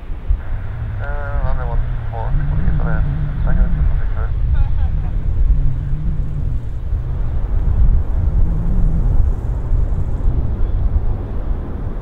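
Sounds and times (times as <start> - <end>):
landing airliner rumble: 0.0 - 12.0.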